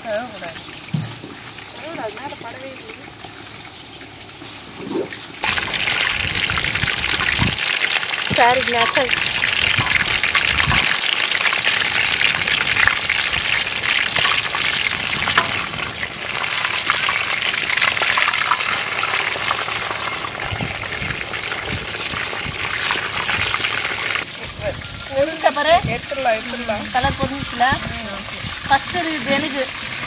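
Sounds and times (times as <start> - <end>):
deep-frying sizzle and crackle: 0.0 - 30.0.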